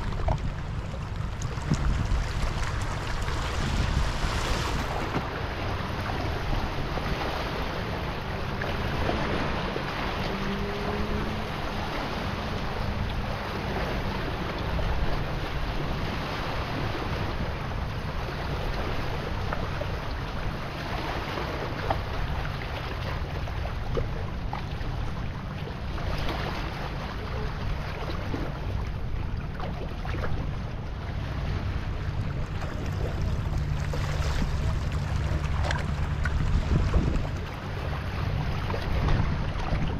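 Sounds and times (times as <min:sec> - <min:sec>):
waves lapping over rocks: 0:00.0 - 0:39.9
wind rumble on microphone: 0:00.0 - 0:39.9.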